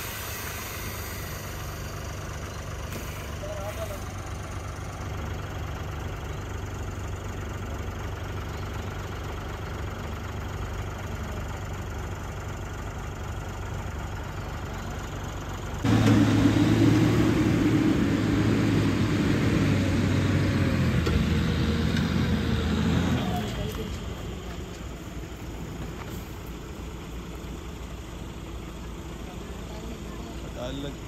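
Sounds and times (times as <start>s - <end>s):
drilling rig truck engine running: 0.0s - 31.0s.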